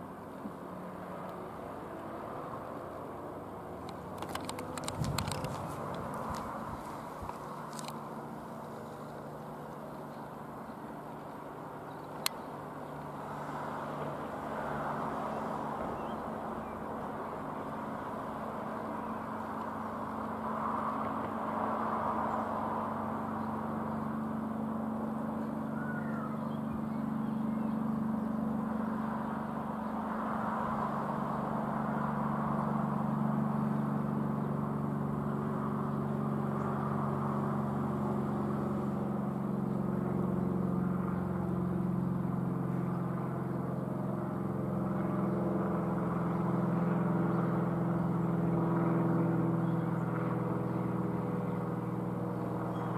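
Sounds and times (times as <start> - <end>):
propeller aeroplane engine droning: 0.0 - 52.9.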